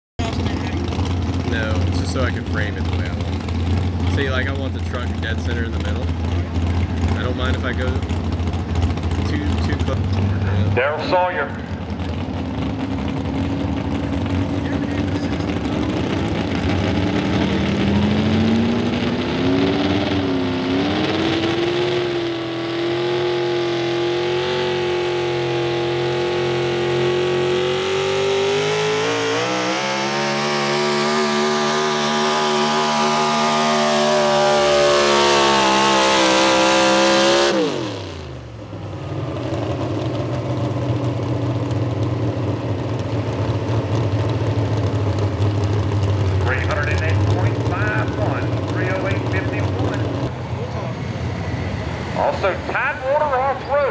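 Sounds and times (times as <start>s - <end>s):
pickup engine at full throttle: 0.2s - 53.9s.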